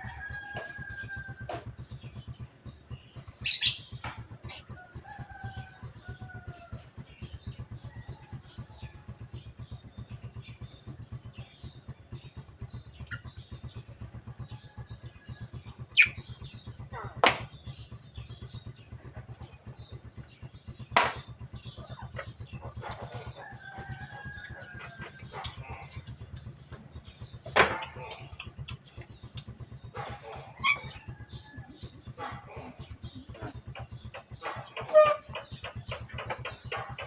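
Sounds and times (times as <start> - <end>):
birds chirping softly: 0.0 - 37.0
low pulsing hum: 0.0 - 37.0.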